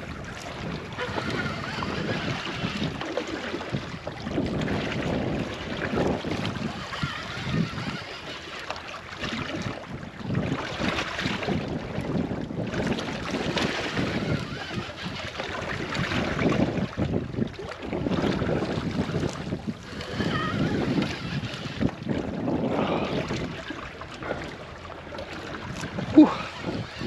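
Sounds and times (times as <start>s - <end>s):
wind buffeting microphone: 0.0s - 8.5s, 9.1s - 27.0s
water slapping boat hull: 0.0s - 27.0s.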